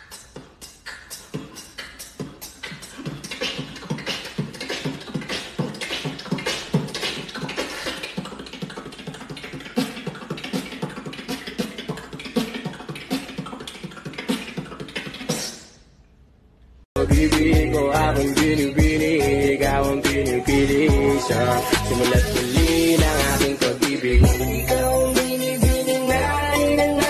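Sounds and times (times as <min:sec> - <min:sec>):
beatboxing: 0:00.0 - 0:15.9, 0:17.0 - 0:27.0.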